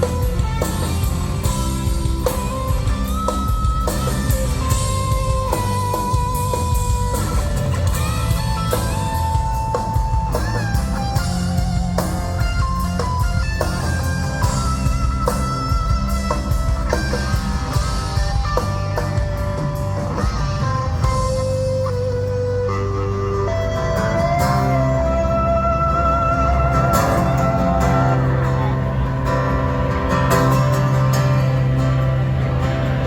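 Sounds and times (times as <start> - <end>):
bass guitar: 0.0 - 33.0
drum kit: 0.0 - 33.0
electric guitar bending notes: 0.0 - 33.0.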